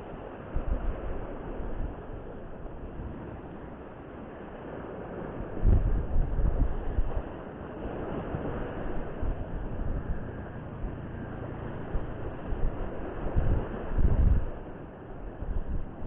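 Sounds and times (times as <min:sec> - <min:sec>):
surf: 0:00.0 - 0:16.0
wind buffeting microphone: 0:00.0 - 0:16.0.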